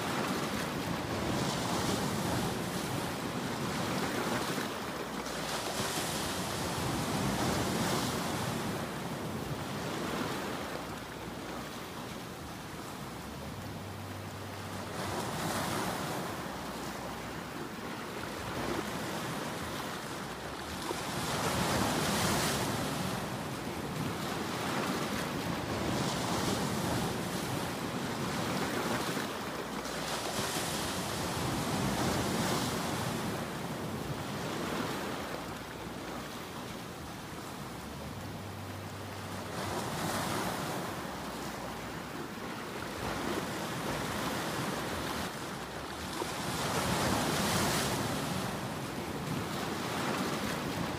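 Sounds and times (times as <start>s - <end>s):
waves breaking: 0.0s - 50.9s.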